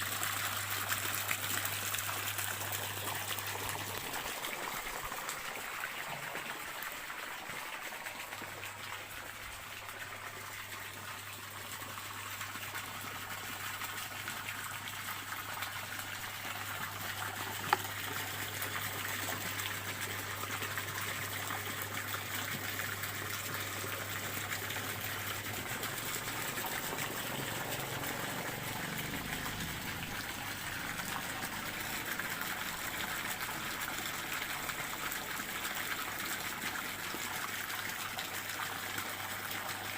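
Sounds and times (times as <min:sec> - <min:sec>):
stream water rushing: 0:00.0 - 0:39.8.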